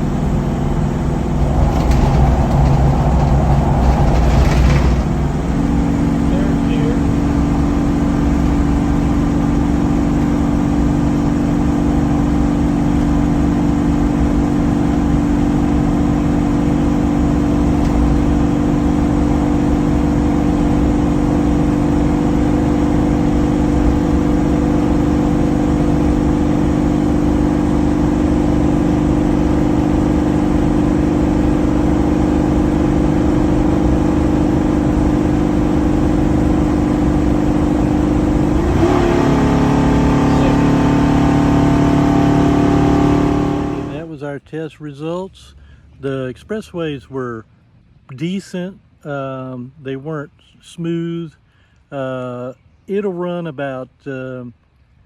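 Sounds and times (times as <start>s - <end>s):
motorhome engine drone: 0.0s - 44.4s
road rumble: 0.0s - 50.6s.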